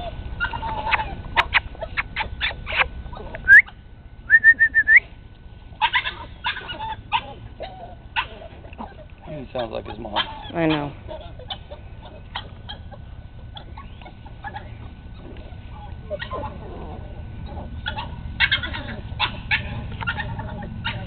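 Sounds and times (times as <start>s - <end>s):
puppies yipping and growling: 0.0s - 3.8s, 5.7s - 21.0s.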